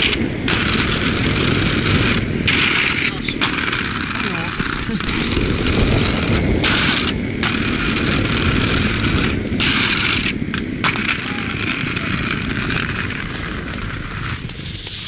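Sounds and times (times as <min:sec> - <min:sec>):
skate wheels rolling on pavement: 0:00.0 - 0:15.0.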